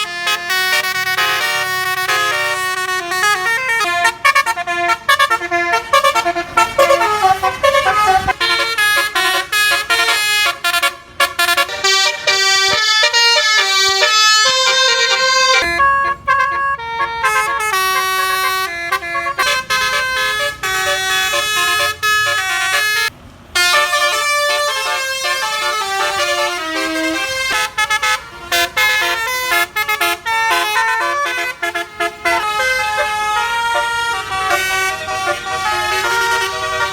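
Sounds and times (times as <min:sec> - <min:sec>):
musical bus air horn: 0:00.0 - 0:36.9.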